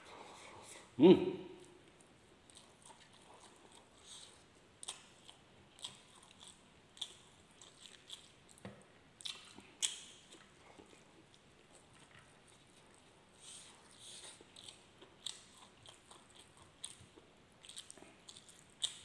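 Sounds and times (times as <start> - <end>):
wet chewing and lip-smacking: 1.6 - 19.0.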